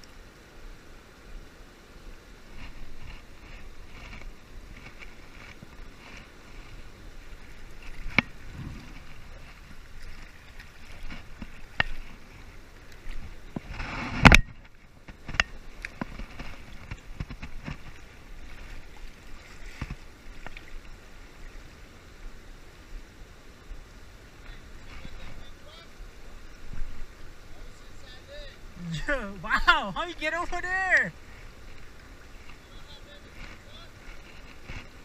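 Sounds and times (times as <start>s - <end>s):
river rushing over a weir: 0.0s - 35.0s.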